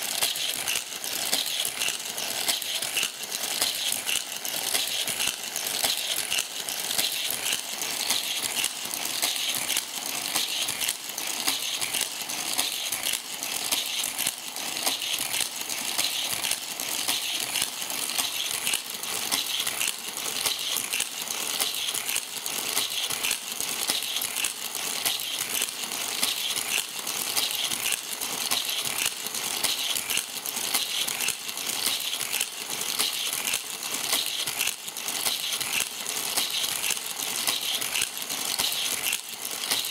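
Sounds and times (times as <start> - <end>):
toy cars rattling on plastic track: 0.0 - 39.9.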